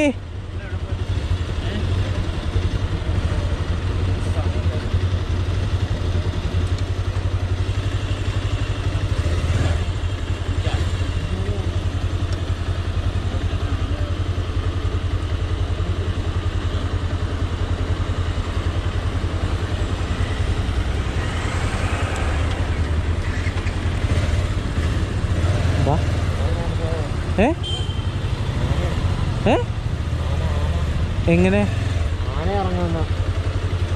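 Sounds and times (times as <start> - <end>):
rush of travel noise: 0.0 - 33.9
vehicle engine running: 0.0 - 33.9.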